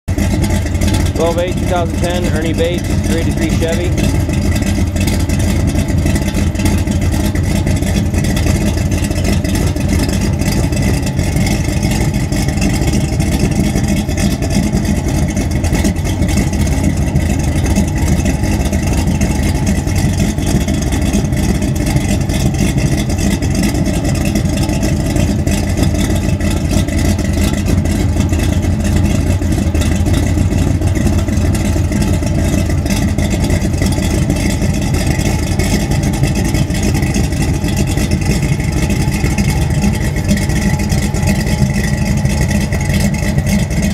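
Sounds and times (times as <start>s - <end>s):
car exhaust running steadily: 0.0s - 43.9s.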